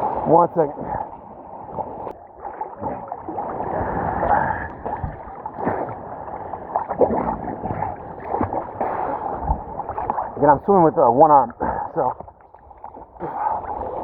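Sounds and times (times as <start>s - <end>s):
water sloshing and gurgling: 0.0s - 14.0s.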